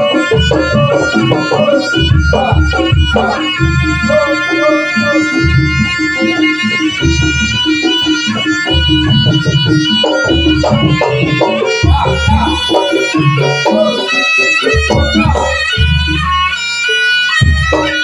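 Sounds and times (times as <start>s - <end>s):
reedy shawm melody: 0.0s - 18.0s.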